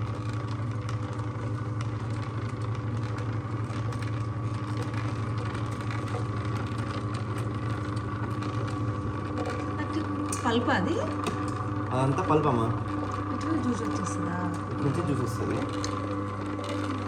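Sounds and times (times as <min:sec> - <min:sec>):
juicer motor humming: 0:00.0 - 0:17.0.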